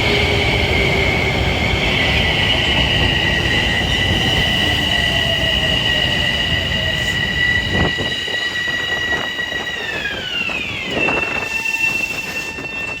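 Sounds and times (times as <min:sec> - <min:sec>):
train passing: 0:00.0 - 0:13.0
high-pitched wheel squeal: 0:00.5 - 0:13.0.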